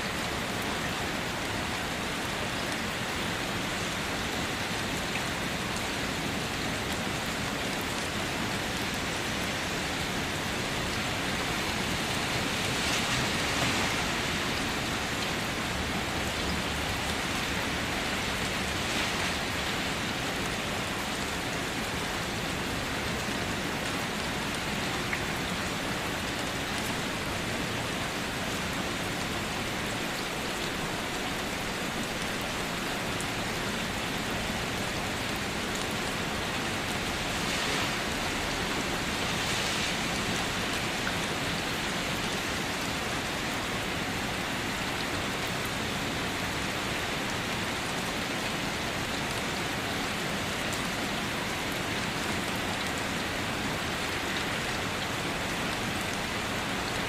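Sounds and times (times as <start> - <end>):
rain on a hard surface: 0.0 - 57.0.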